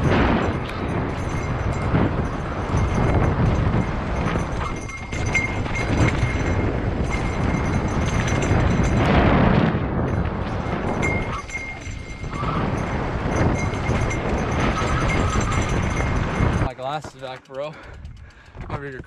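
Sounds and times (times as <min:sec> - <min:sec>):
bike rattling over rocks: 0:00.0 - 0:19.0
tyres rumbling on dirt: 0:00.0 - 0:19.0
wind buffeting microphone: 0:00.0 - 0:19.0.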